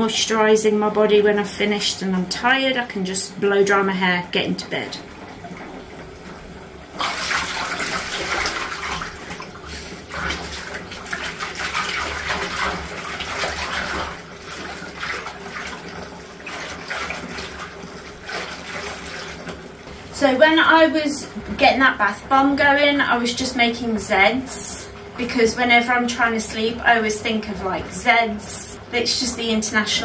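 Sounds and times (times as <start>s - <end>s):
bath tap running into tub: 0.0s - 30.0s.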